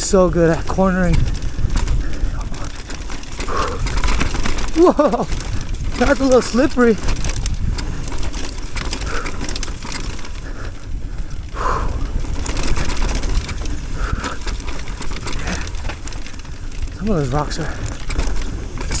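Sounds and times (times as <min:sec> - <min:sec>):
bike frame rattling: 0:00.0 - 0:19.0
bike tyres rolling over dirt and rock: 0:00.0 - 0:19.0
wind on microphone: 0:00.0 - 0:19.0.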